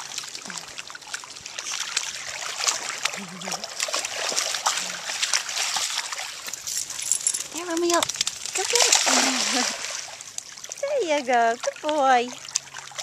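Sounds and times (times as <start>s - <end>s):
dogs splashing through water: 0.0s - 13.0s.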